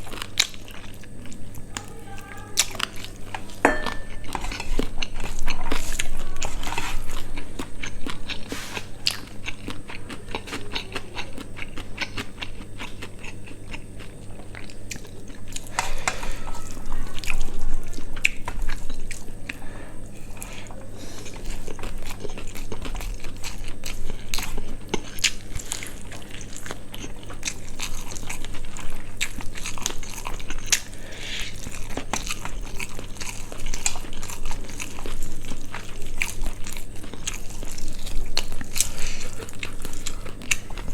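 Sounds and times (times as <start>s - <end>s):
steady low hum: 0.0s - 40.9s
wet chewing and crunching: 0.0s - 40.9s.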